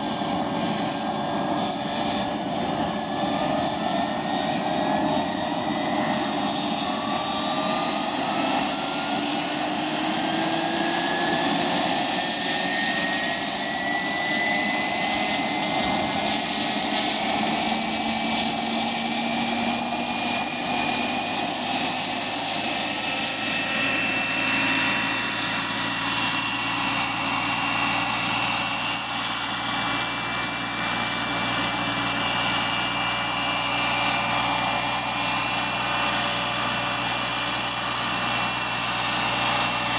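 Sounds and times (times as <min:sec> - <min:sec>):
gas turbine whining: 0:00.0 - 0:39.9
helicopter rotor rushing: 0:00.0 - 0:39.9.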